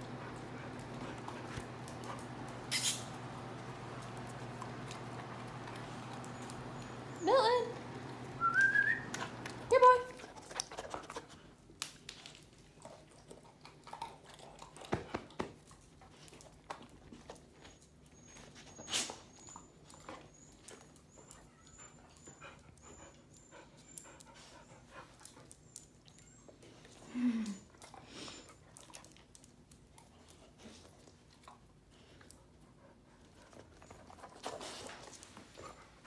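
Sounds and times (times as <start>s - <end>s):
dogs panting: 0.0s - 11.6s, 12.8s - 36.0s.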